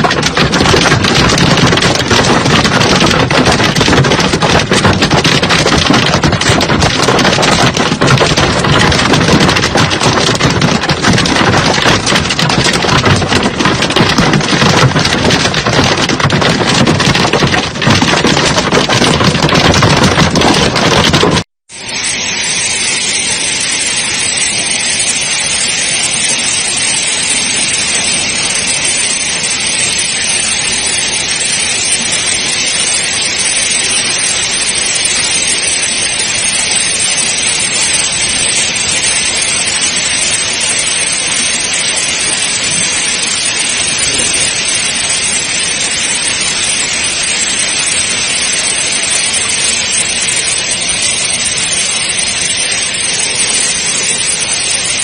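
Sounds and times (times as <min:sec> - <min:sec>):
hail and rain pelting down: 0:00.0 - 0:55.0.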